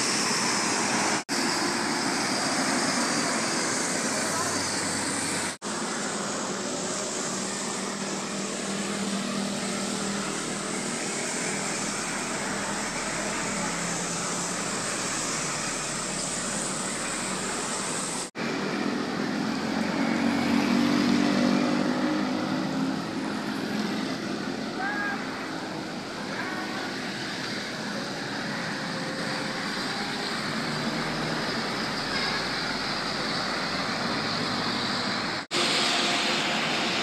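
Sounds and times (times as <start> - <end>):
bus engine: 0.0 - 37.0
tyres hissing on wet road: 0.0 - 37.0.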